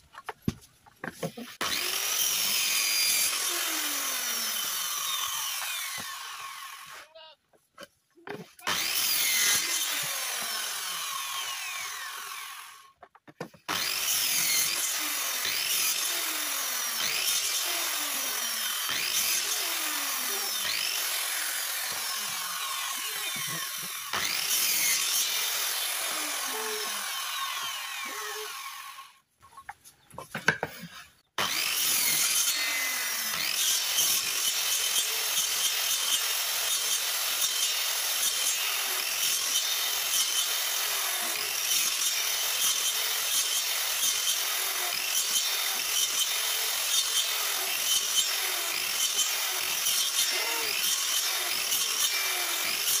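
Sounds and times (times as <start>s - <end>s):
circular saw cutting wood: 1.0s - 7.2s, 8.2s - 13.0s, 13.6s - 29.2s, 30.4s - 53.0s.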